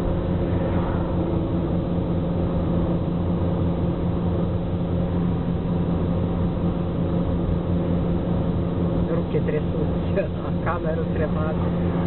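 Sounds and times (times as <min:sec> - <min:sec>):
car engine hum in cabin: 0:00.0 - 0:12.0
road rumble: 0:00.0 - 0:12.0.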